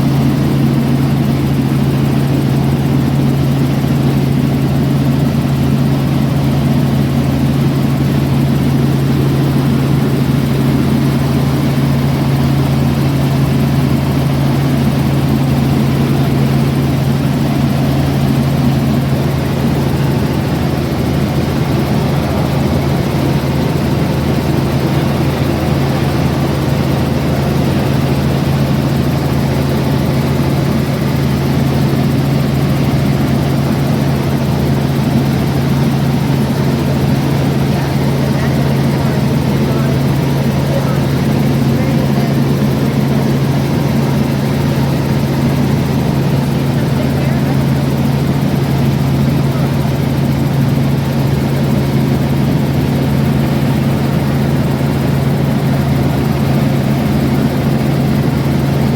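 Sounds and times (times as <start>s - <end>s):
aircraft engine drone: 0.0s - 58.9s.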